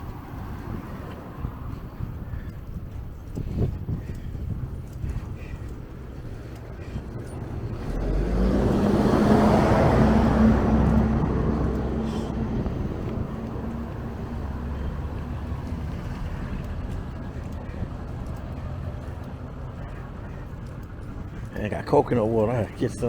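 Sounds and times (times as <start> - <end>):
vehicle passing by: 0.0 - 23.0.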